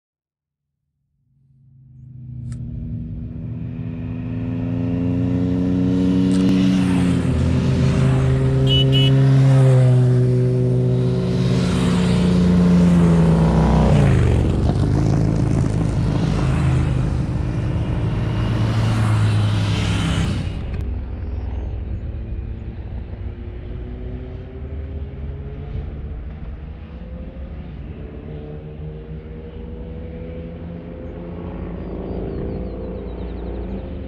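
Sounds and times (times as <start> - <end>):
motorcycles passing by: 2.1 - 34.0.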